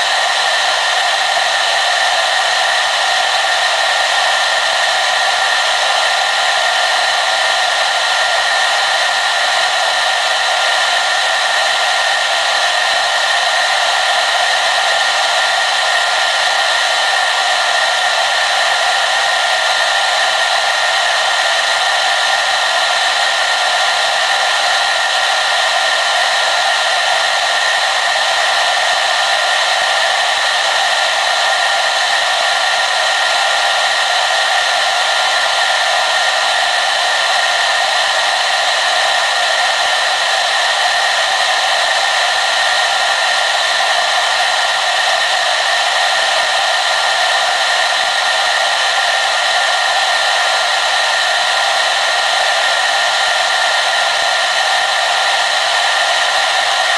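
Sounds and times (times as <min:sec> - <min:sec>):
hair dryer running: 0:00.0 - 0:56.9.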